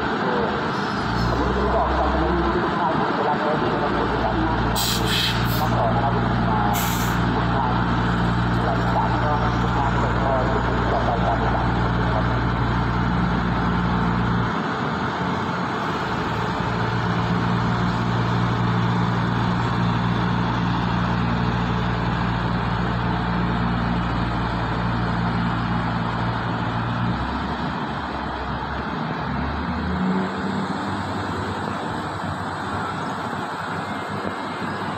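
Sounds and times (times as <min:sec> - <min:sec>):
diesel train engines humming: 0:00.0 - 0:34.9.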